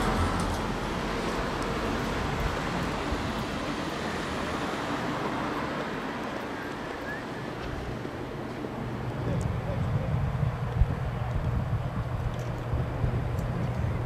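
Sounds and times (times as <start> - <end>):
low traffic-like rumble: 0.0 - 14.0.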